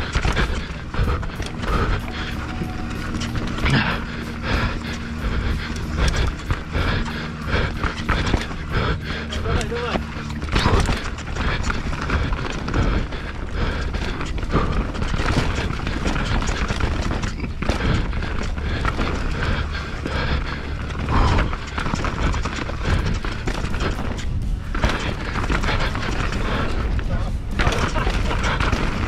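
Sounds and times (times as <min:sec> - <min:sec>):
bike rattling and clattering: 0:00.0 - 0:29.0
wind rumbling on microphone: 0:00.0 - 0:29.0.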